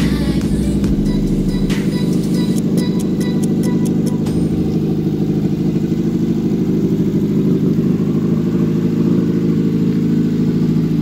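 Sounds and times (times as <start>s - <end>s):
petrol engine idling: 0.0s - 11.0s.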